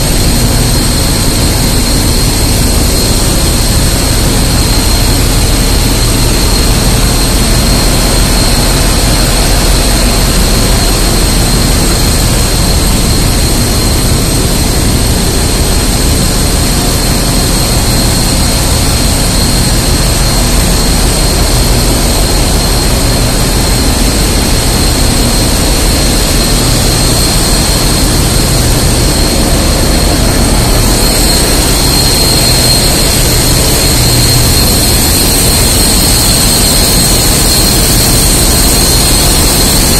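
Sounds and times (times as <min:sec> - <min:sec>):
ship engine room rumble: 0:00.0 - 0:39.9
steady high machinery whine: 0:00.0 - 0:39.9.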